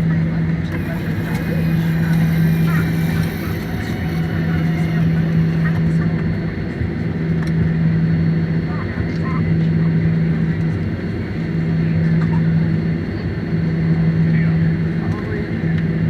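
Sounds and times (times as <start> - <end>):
aircraft cabin engine hum: 0.0 - 16.0.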